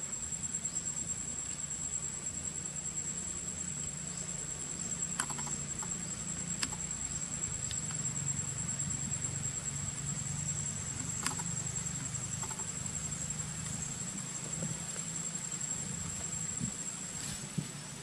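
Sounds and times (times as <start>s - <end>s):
high-pitched insect drone: 0.0s - 18.0s
low background hum: 0.0s - 18.0s.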